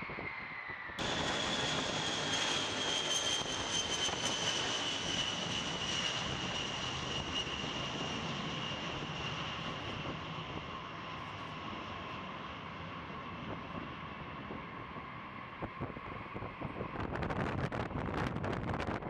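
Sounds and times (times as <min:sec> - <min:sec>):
jet engines roaring with whine: 0:00.0 - 0:19.0.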